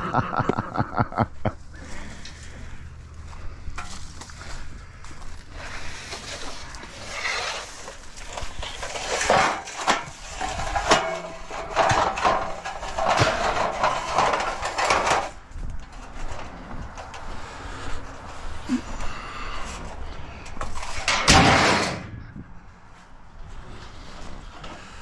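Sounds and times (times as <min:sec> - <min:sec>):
scrap metal clanking and scraping: 0:01.8 - 0:22.2.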